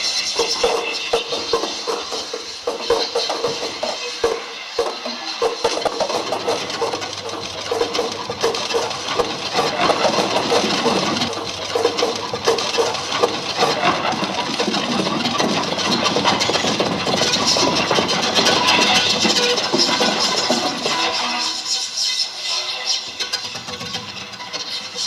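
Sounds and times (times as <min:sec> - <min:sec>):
grinding electronic noise music: 0:00.0 - 0:25.0.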